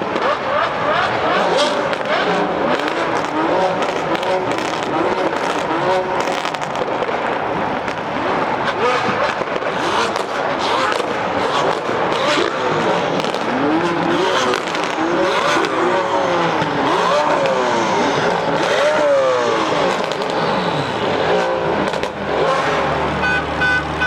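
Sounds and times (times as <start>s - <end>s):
exhaust crackles: 0.0s - 24.0s
race car engines accelerating: 0.0s - 24.0s.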